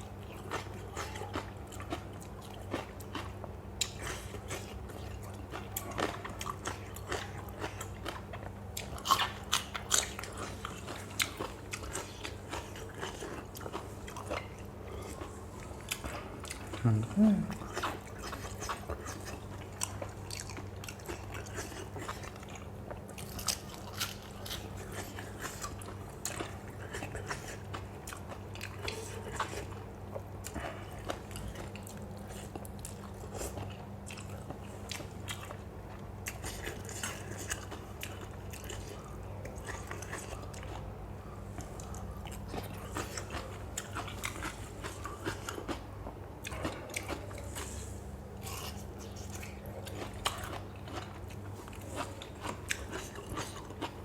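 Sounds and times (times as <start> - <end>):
person chewing crunchy food: 0.0 - 54.0
steady low hum: 0.0 - 54.0.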